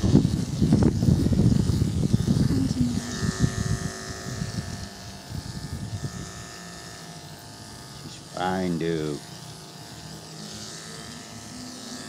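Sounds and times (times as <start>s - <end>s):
electric dog clipper humming: 0.0s - 12.0s.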